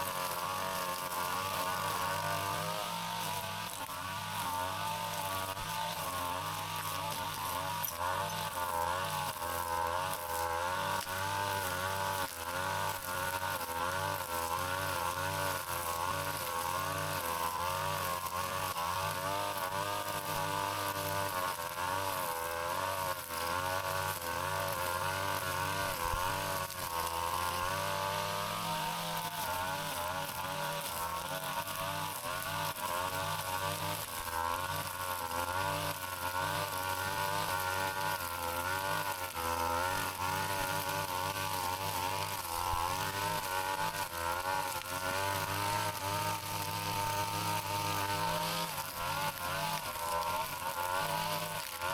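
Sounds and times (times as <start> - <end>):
brush cutter engine cutting grass: 0.0 - 51.9.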